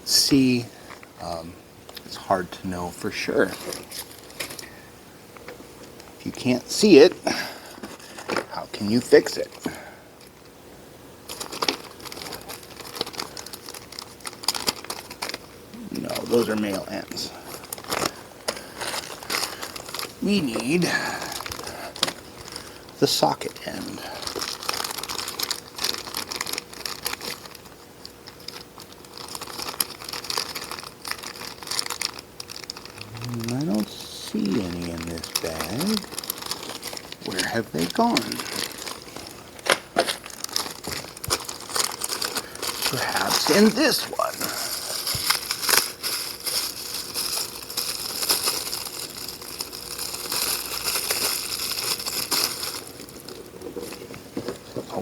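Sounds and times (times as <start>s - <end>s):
plastic bags crinkling: 3.1s - 4.9s, 6.2s - 10.5s, 11.2s - 55.0s.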